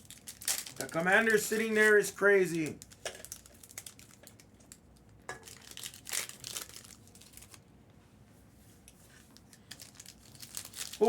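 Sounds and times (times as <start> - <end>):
plastic wrapper crinkling: 0.0 - 7.6, 9.4 - 11.0.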